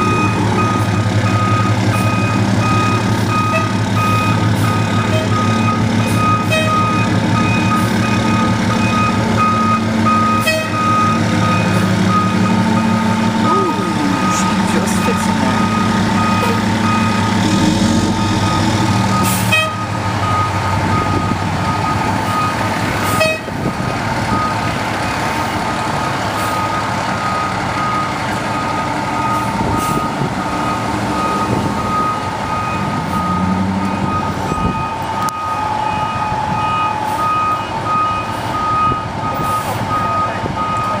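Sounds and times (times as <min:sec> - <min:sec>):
reversing alarm beeping: 0:00.0 - 0:23.5, 0:24.3 - 0:41.0
fire engine running: 0:00.0 - 0:41.0.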